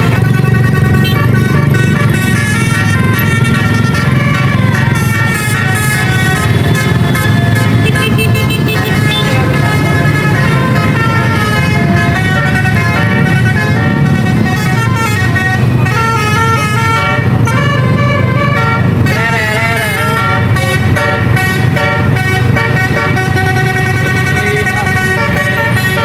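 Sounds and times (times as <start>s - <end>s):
bus engine rumble: 0.0s - 26.0s
bus horn playing a tune: 0.0s - 26.0s.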